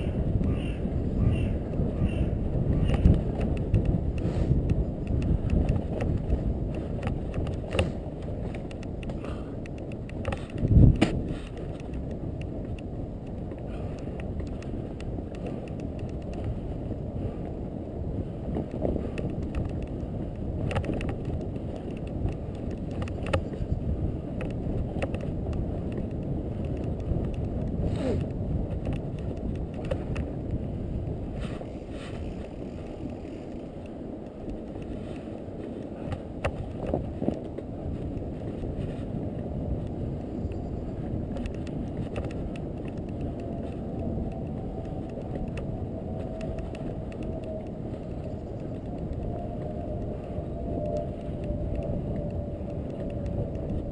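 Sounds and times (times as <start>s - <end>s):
bike clicks and rattles: 0.0s - 53.9s
tyres rumbling through snow: 0.0s - 53.9s
wind buffeting microphone: 0.0s - 53.9s.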